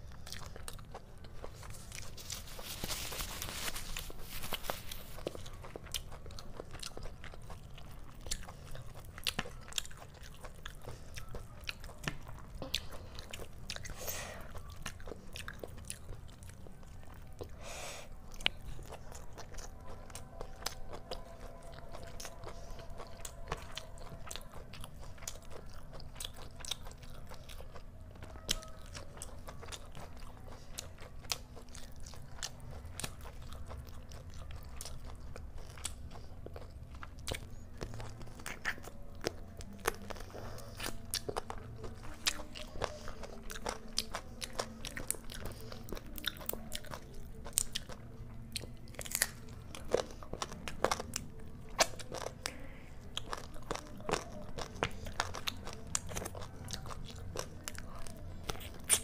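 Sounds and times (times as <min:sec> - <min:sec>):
close chewing and biting: 0:00.0 - 0:59.0
faint low hum: 0:00.0 - 0:59.0.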